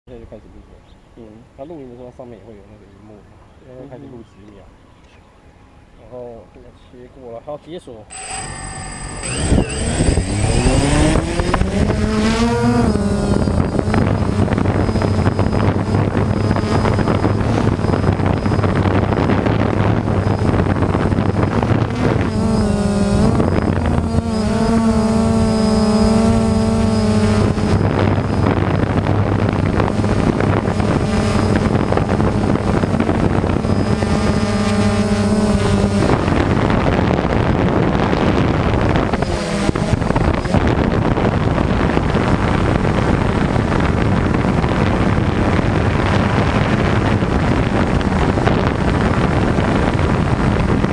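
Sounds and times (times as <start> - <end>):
drone motors whining: 8.1 - 50.9.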